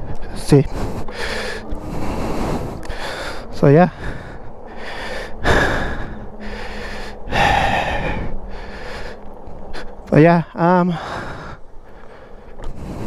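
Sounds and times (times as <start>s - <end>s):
person breathing heavily: 0.0s - 10.1s, 10.7s - 13.0s.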